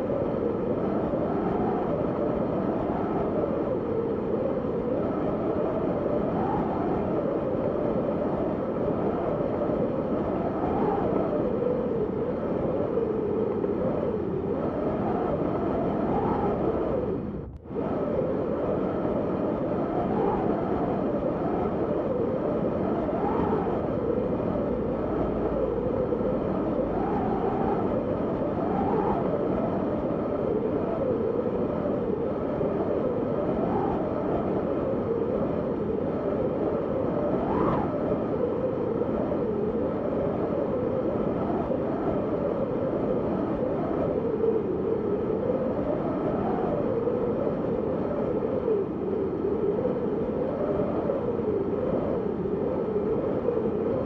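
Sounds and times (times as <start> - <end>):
wind howling: 0.0 - 54.0.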